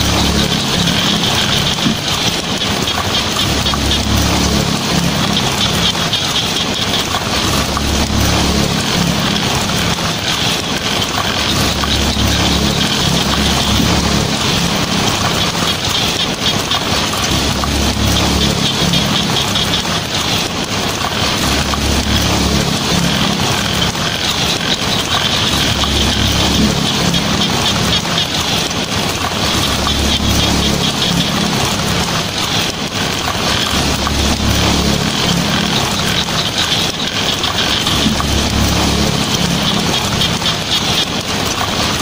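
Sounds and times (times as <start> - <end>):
heavy rain on a tin roof: 0.0 - 42.0
thunder rumble: 0.0 - 42.0.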